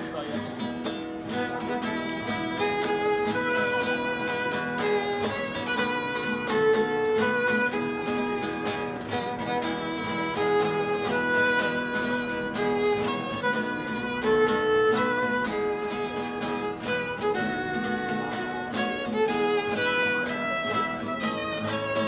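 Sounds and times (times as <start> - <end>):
strummed acoustic guitar chords: 0.0 - 22.0
violin melody: 0.0 - 22.0.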